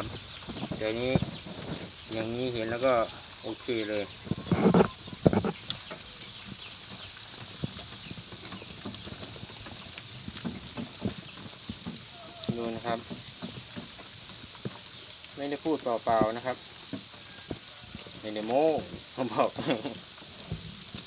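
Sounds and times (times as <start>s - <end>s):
rustling and knocking: 0.0s - 2.9s, 3.6s - 21.0s
crickets chirping: 0.0s - 21.0s.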